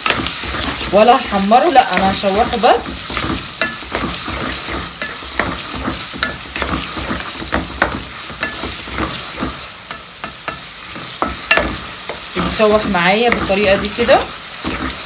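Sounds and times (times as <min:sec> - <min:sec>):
onions sizzling in oil: 0:00.0 - 0:15.0
wooden spoon knocking on pot: 0:00.0 - 0:15.0.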